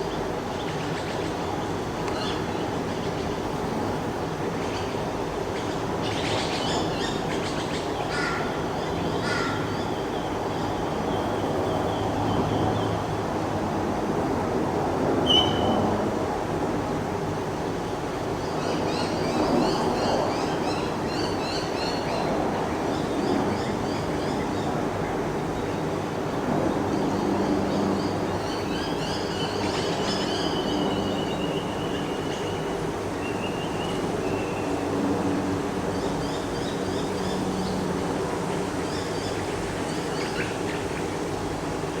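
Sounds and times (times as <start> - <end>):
wind: 0.0 - 42.0.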